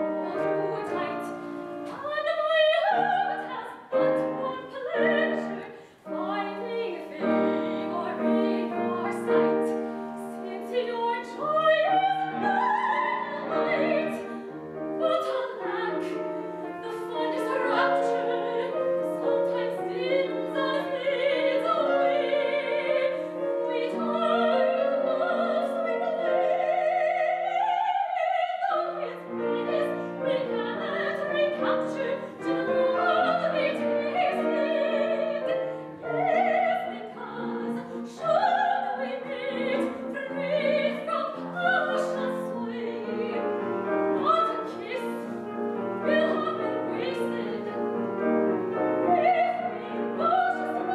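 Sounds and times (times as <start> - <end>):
piano accompaniment: 0.0 - 50.9
woman singing opera with vibrato: 0.0 - 50.9.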